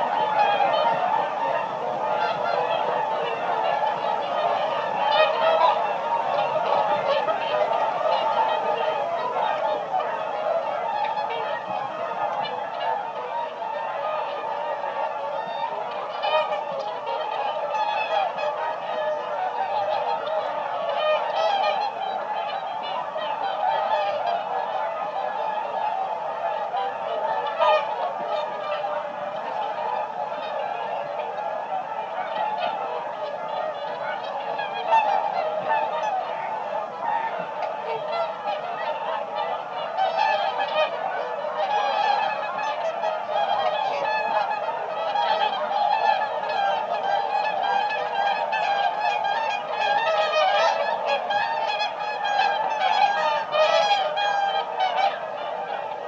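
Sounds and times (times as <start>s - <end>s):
swans honking: 0.0s - 56.0s.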